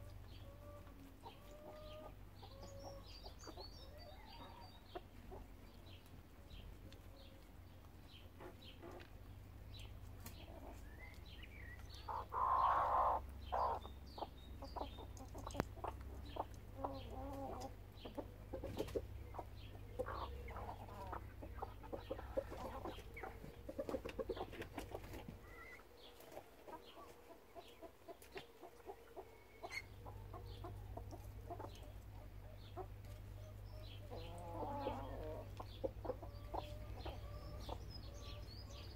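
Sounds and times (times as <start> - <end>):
hens and rooster clucking: 0.0 - 38.9.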